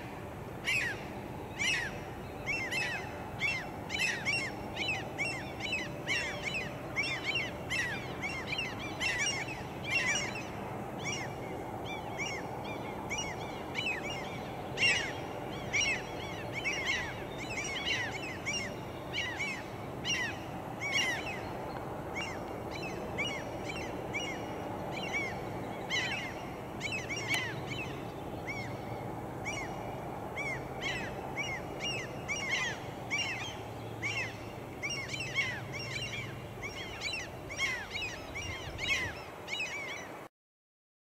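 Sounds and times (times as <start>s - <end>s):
birds chirping: 0.7s - 40.2s.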